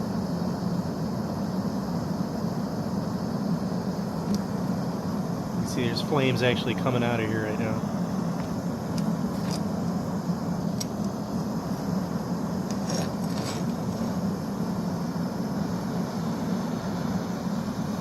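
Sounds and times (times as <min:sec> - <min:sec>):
gas torch roaring: 0:00.0 - 0:18.0.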